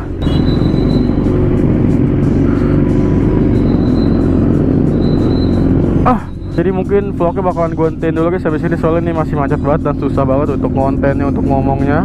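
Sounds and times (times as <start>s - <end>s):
motorcycle engine running: 0.0s - 12.0s
traffic noise: 0.0s - 12.0s.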